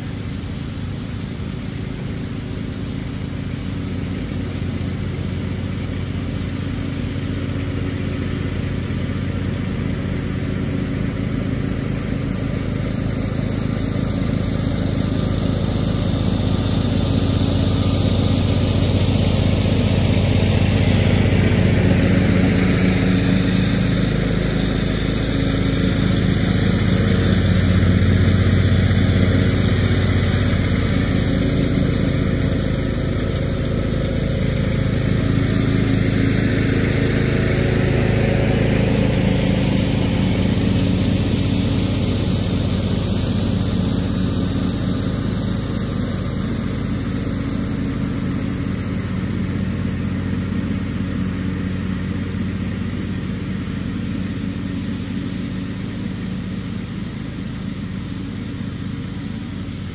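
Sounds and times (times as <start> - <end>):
riding lawn mower engine: 0.0 - 59.9.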